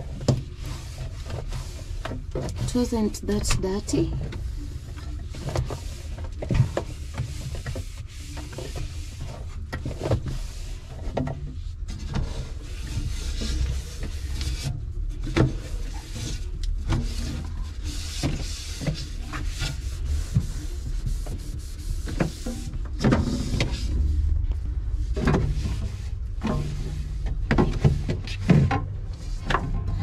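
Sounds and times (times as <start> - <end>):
steady low hum: 0.0 - 30.0
cloth wiping plastic surfaces: 0.2 - 30.0.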